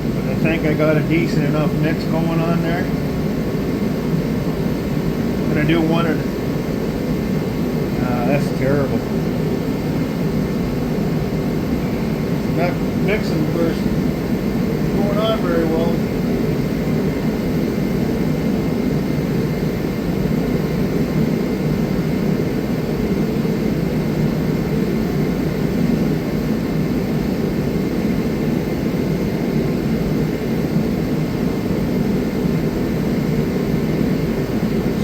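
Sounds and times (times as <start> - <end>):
fan whoosh and hum: 0.0 - 35.0.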